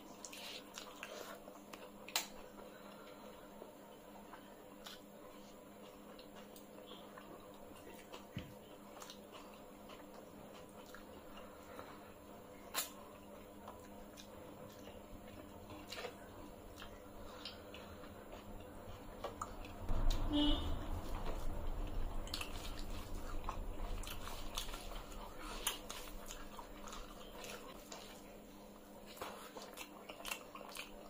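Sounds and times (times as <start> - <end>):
soft chewing: 0.0 - 19.9, 21.0 - 31.0.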